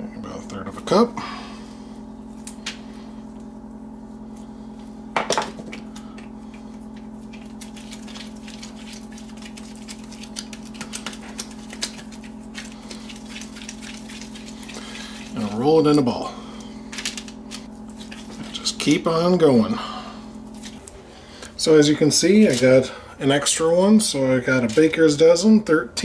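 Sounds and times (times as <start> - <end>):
steady low hum: 0.0 - 26.0
hands working sticky dough: 2.2 - 25.5.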